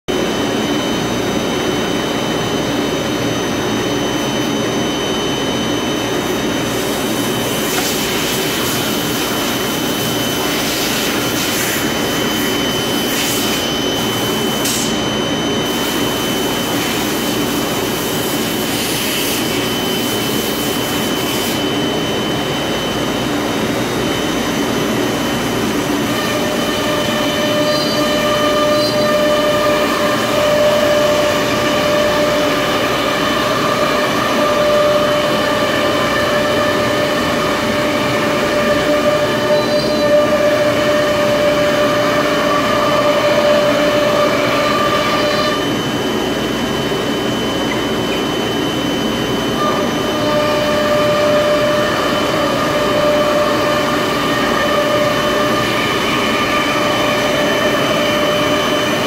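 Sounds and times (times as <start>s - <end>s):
cnc router spindle whine: 0.1s - 59.0s.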